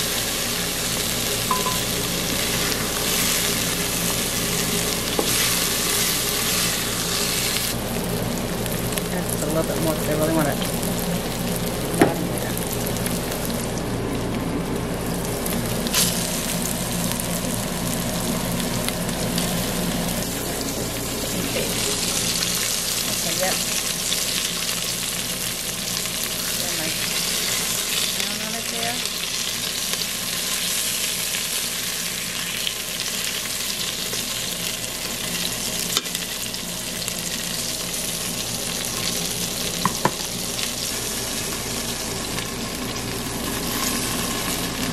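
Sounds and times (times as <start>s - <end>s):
meat sizzling in oil: 0.0s - 44.9s.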